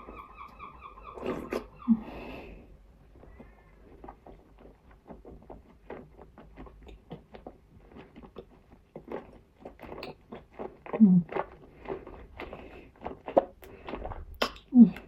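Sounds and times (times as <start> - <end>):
person chewing with crunches: 0.0 - 15.0.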